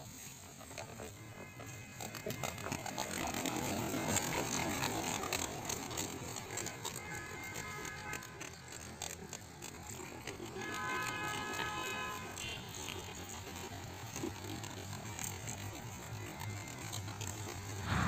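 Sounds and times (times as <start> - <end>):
pigeons flapping wings: 0.3 - 18.0.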